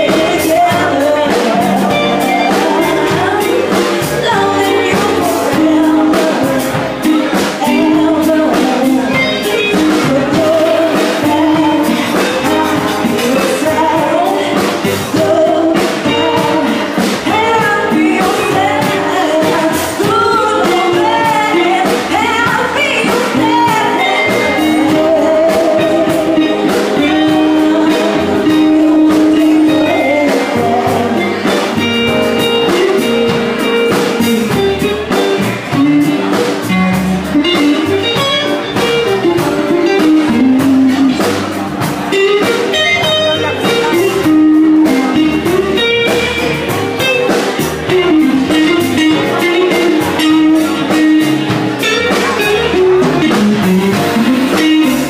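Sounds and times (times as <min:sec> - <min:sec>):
drums: 0:00.0 - 0:55.0
electric guitar: 0:00.0 - 0:55.0
woman singing: 0:00.0 - 0:55.0.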